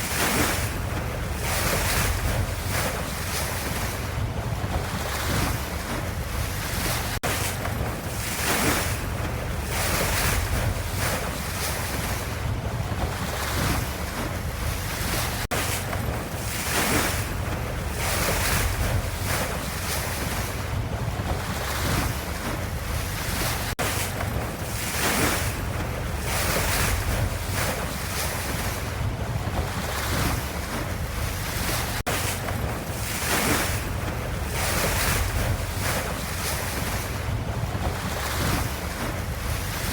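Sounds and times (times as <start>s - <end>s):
ocean waves washing: 0.0s - 39.9s.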